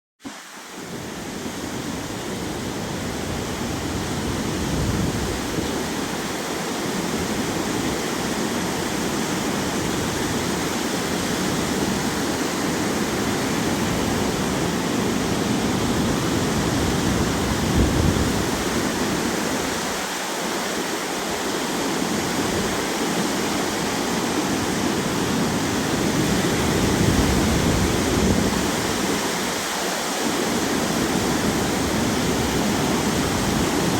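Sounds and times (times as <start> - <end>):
waves breaking on shore: 0.2 - 33.9
wind buffeting microphone: 1.0 - 20.2, 21.6 - 29.7.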